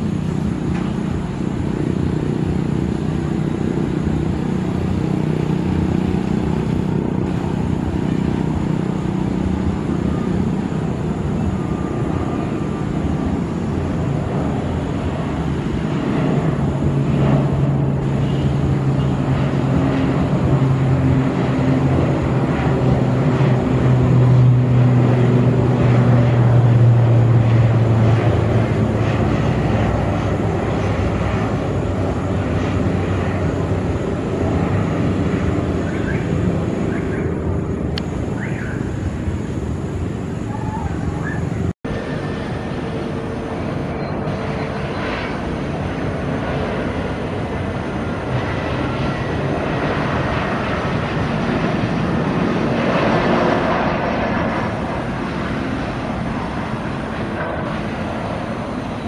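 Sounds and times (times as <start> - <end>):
turboprop aircraft taking off: 0.0 - 59.0.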